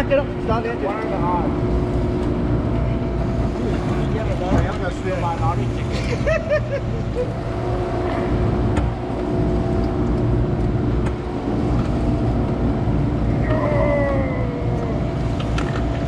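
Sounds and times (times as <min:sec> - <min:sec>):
boat motor droning: 0:00.0 - 0:16.0.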